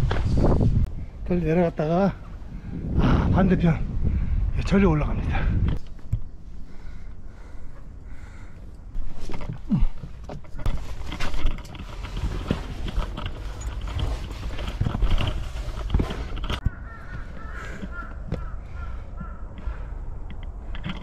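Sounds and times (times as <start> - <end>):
wind rumble: 0.0 - 21.0.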